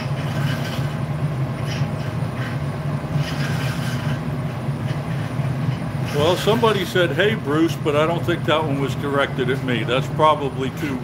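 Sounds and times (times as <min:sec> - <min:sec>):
gas burners humming and hissing: 0:00.0 - 0:11.0.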